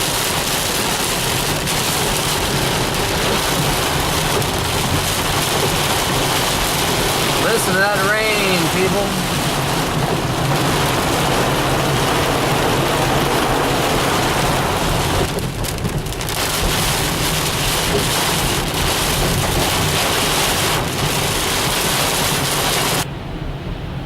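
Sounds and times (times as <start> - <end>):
heavy rain pouring: 0.0 - 23.1.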